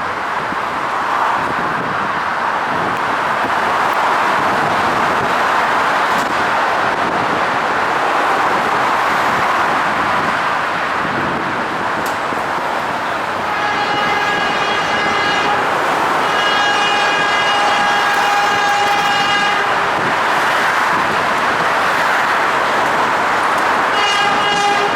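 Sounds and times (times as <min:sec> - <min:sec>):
subway train rumbling on tracks: 0:00.0 - 0:24.9.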